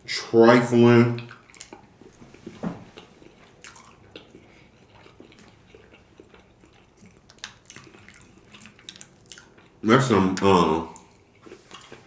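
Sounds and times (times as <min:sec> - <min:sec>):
wet chewing sounds: 0:01.1 - 0:12.0.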